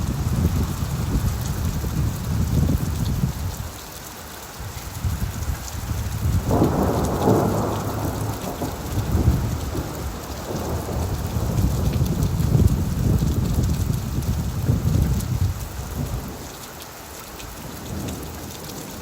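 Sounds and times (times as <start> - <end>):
low rumble of thunder: 0.0 - 3.7, 4.7 - 16.5
steady rain falling: 0.0 - 19.0.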